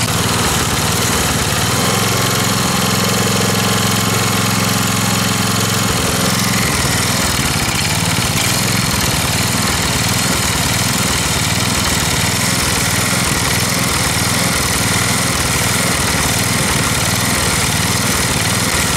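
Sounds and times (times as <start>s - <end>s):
garden tractor engine running: 0.0s - 18.9s.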